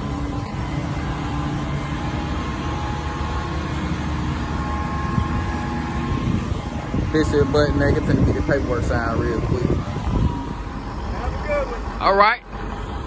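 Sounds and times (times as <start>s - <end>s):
crane engine rumbling: 0.0s - 13.0s
faint steady tones: 0.0s - 13.0s.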